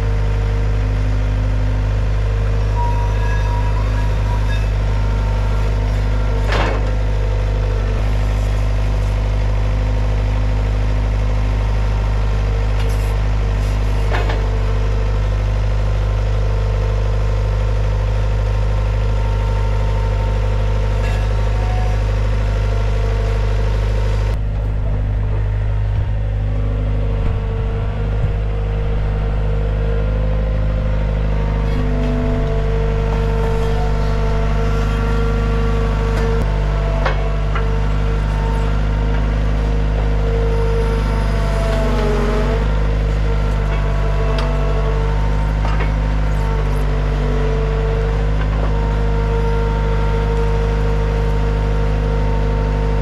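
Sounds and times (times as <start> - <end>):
diesel engine idling: 3.6 - 53.0.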